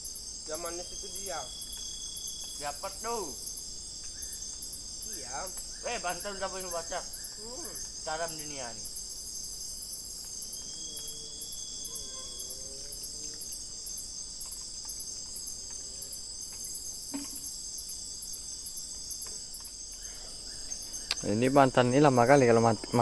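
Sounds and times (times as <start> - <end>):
insect chirping pulse: 0.0 - 23.0
insects droning chorus: 0.0 - 23.0.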